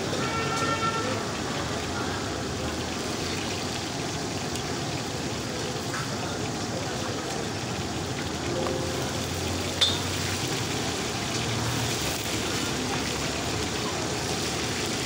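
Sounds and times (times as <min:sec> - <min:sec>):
oil sizzling: 0:01.2 - 0:15.0.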